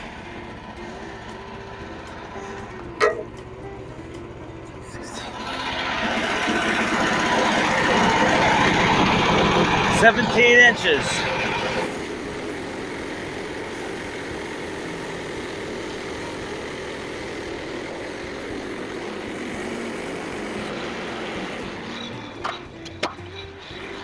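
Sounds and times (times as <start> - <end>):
sawmill gas engine running: 0.0 - 24.0.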